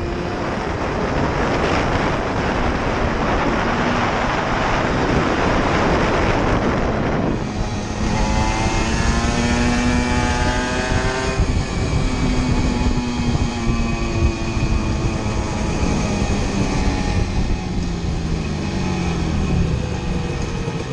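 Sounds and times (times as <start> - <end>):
two-stroke motorcycle engine: 0.0 - 20.9.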